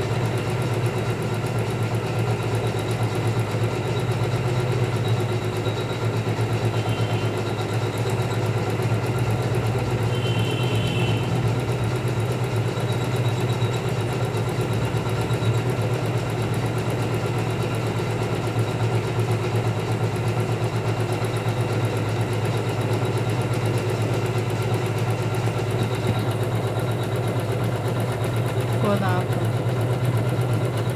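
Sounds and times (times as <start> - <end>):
motor hum: 0.0 - 30.9.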